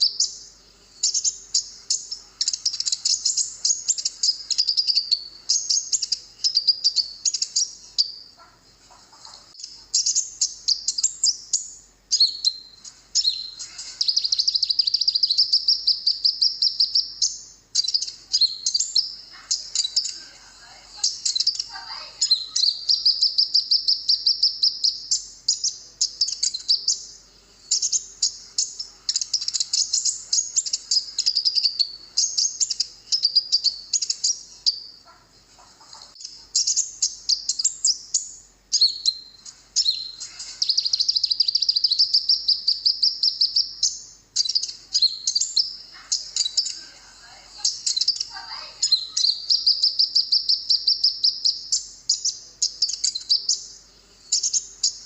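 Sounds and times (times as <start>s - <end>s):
bird singing rapid trills: 0.0s - 8.6s, 9.2s - 35.2s, 35.8s - 55.0s.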